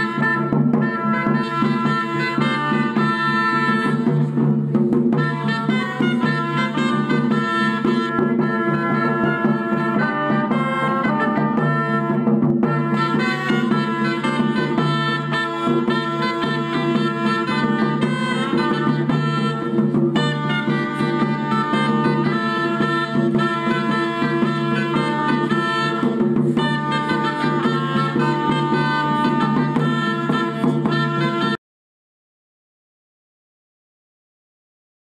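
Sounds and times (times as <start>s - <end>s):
reed pipes playing tune: 0.0s - 4.5s, 5.1s - 31.6s.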